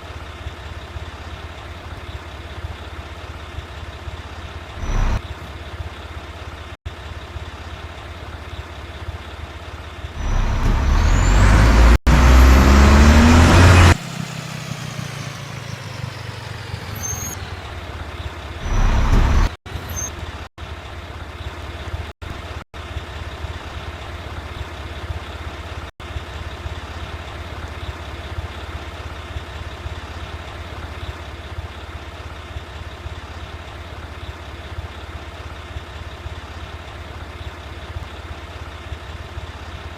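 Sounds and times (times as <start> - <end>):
garbage truck diesel engine running: 0.0 - 39.9.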